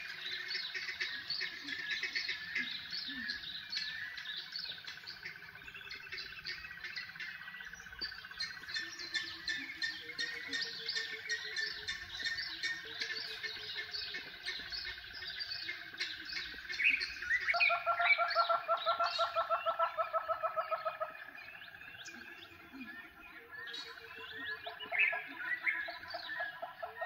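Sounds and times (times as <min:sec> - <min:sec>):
bird repeated loud calls: 0:00.0 - 0:27.0
wild birds chirping and calling: 0:00.0 - 0:27.0.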